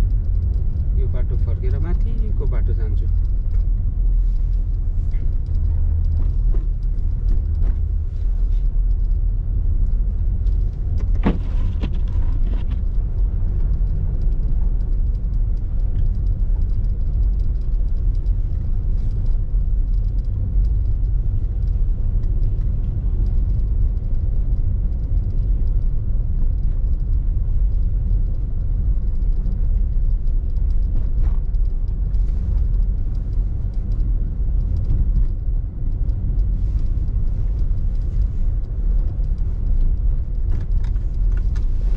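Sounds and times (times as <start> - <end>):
car driving heard from inside: 0.0 - 41.9.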